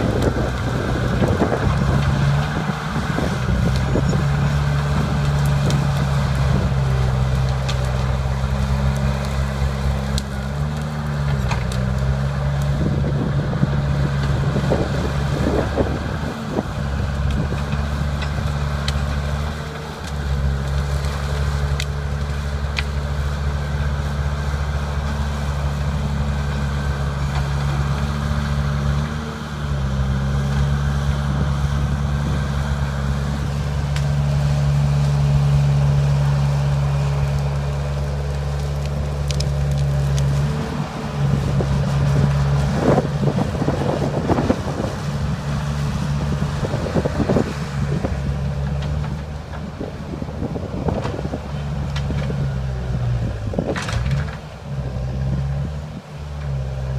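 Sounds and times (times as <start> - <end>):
branches cracking: 0.0 - 56.9
bulldozer diesel engine running hard: 0.0 - 56.9.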